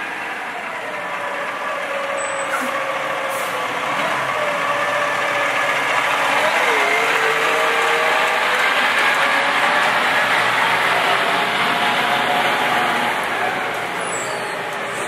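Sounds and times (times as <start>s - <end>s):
fire truck diesel engine: 0.0s - 15.0s.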